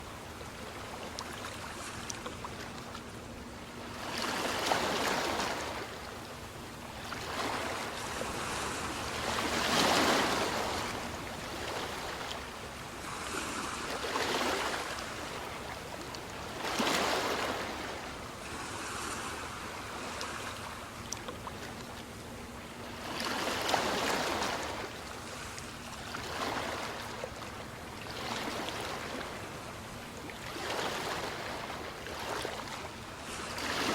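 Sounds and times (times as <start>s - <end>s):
ocean waves breaking on shore: 0.0s - 33.9s
surf hiss: 3.1s - 21.0s, 23.0s - 33.9s.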